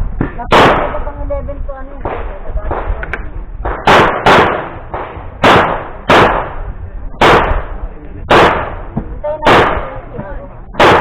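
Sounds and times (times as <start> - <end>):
gunshots: 0.2 - 1.2, 2.0 - 10.1, 10.8 - 11.0.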